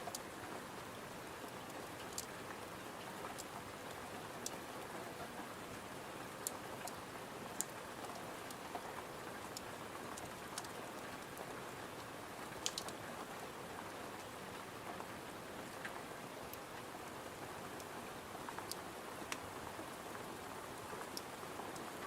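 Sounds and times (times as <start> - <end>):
rain on a window: 0.0 - 22.0.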